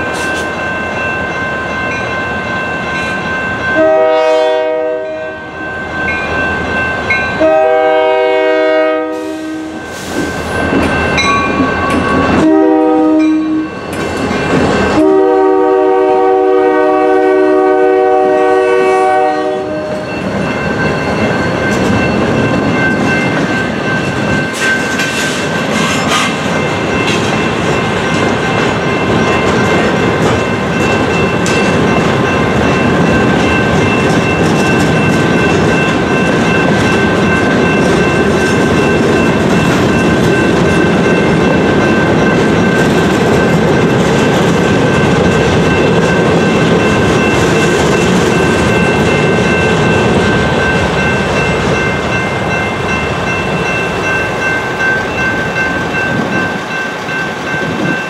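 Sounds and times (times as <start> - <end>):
freight train wheels clacking: 0.0 - 4.8, 6.0 - 58.0
crossing bells ringing: 0.0 - 58.0.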